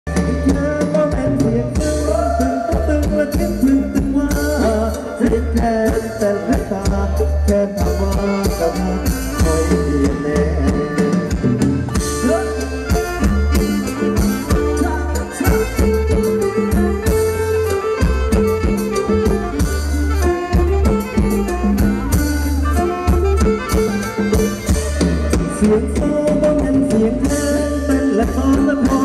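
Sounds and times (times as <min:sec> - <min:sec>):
heavy drum and bass beat: 0:00.1 - 0:29.0
live band dance music: 0:00.1 - 0:29.0.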